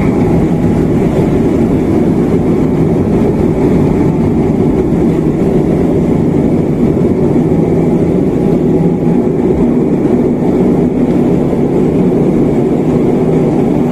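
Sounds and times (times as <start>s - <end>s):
airliner engine drone in cabin: 0.0s - 13.9s.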